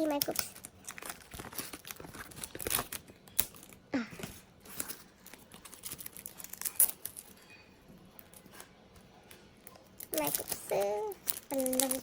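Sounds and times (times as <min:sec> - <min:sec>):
packaging crinkling and tearing: 0:00.0 - 0:07.4, 0:09.7 - 0:12.0.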